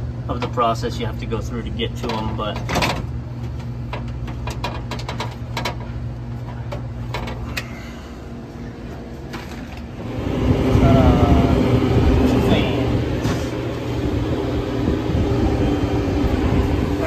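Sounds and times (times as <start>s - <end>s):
fan air rushing: 0.0s - 17.0s
refrigeration unit humming: 0.0s - 17.0s.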